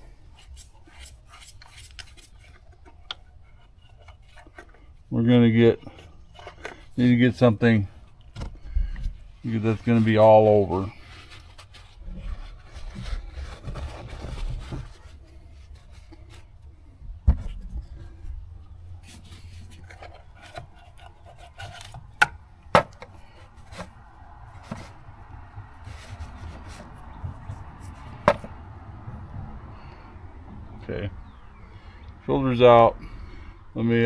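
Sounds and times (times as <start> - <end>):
rubbing and scraping handling: 0.0 - 30.0.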